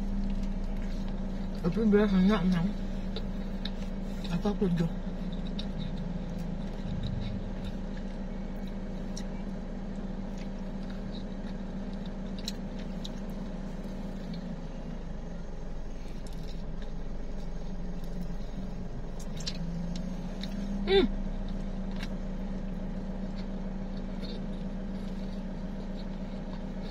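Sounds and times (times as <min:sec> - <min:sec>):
car engine idling: 0:00.0 - 0:26.9
chewing and food handling clicks: 0:00.1 - 0:15.0, 0:16.0 - 0:20.7, 0:21.4 - 0:26.9.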